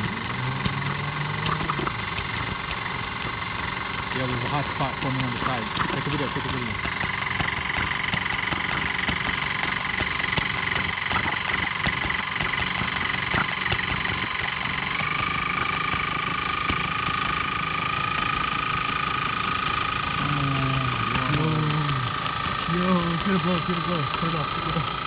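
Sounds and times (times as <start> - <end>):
small engine rapid ticking: 0.0 - 25.0
steady whine: 0.0 - 25.0.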